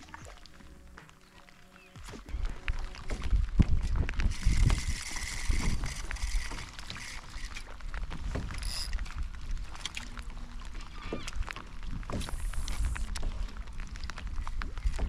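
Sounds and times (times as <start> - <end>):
small waves lapping against kayak: 0.0 - 15.0
wind rumble on microphone: 2.2 - 15.0.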